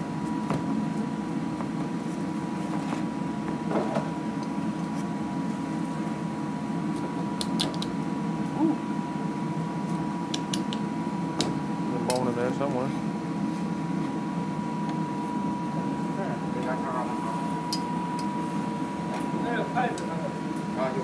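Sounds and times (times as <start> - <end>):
kitchen ventilation hum: 0.0 - 21.0.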